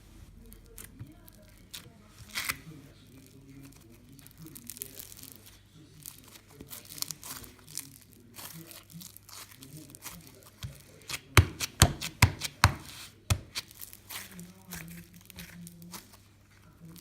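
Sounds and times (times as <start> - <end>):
slime crinkly crackles: 0.0 - 17.0.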